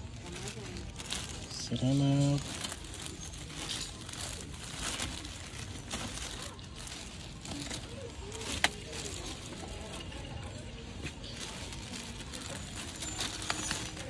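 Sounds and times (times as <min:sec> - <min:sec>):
faint background voices: 0:00.0 - 0:14.0
handling noise: 0:00.0 - 0:14.0.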